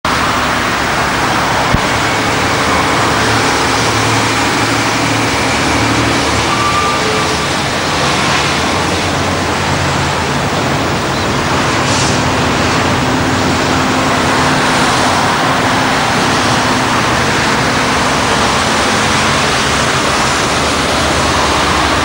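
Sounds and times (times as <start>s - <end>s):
distant motor vehicles roaring: 0.0s - 22.0s.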